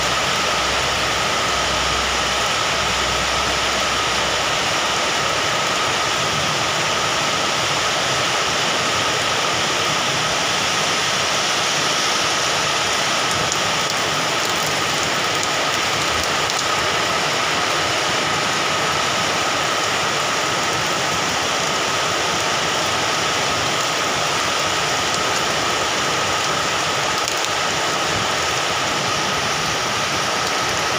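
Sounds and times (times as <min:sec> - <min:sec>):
heavy rain on wet concrete: 0:00.0 - 0:30.9.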